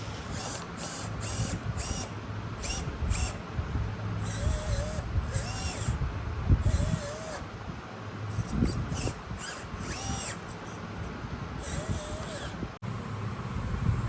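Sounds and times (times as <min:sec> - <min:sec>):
electric motor whining: 0:00.0 - 0:03.5, 0:04.2 - 0:07.7, 0:08.3 - 0:12.8.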